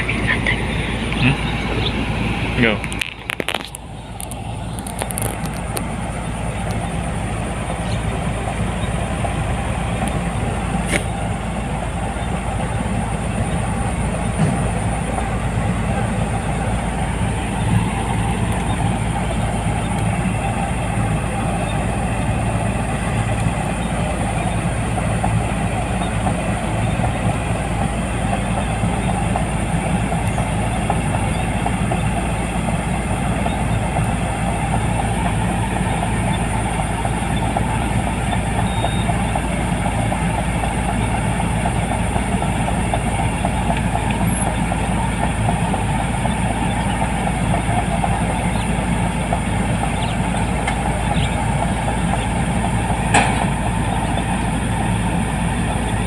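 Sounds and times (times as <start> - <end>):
diesel engine hum: 0.0 - 56.0.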